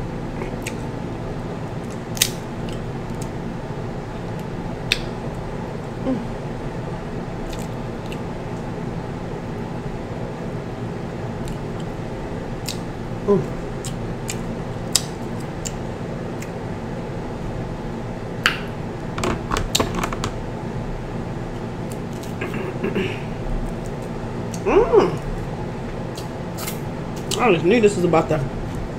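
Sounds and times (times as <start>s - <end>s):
fan hum: 0.0s - 28.9s.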